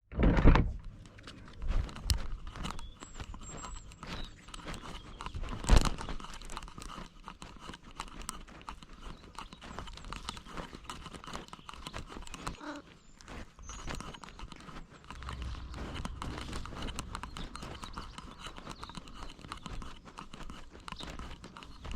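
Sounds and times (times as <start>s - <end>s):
camera mount rubbing: 0.9s - 21.9s
cat footsteps: 1.0s - 21.9s.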